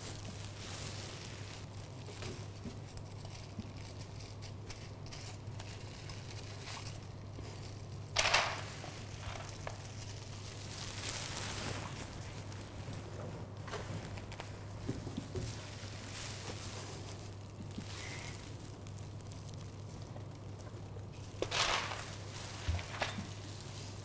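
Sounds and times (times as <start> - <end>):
crinkly rustle: 0.0 - 24.0
kittens rustling and scuffling: 0.0 - 24.0.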